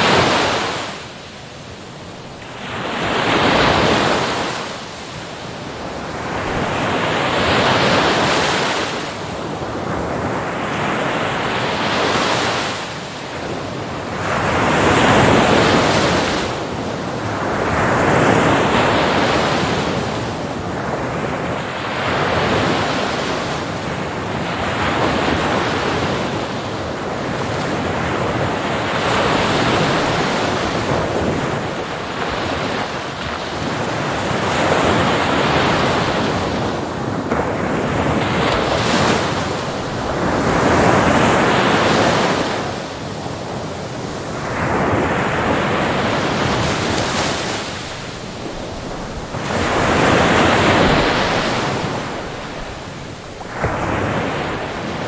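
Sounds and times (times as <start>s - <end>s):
ocean waves breaking on beach: 0.0s - 55.0s
wind noise on microphone: 0.0s - 55.0s.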